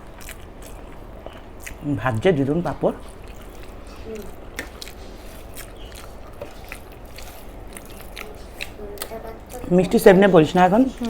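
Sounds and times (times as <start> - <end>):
chewing: 0.0 - 2.2, 2.9 - 11.0
steady low hum: 0.0 - 11.0.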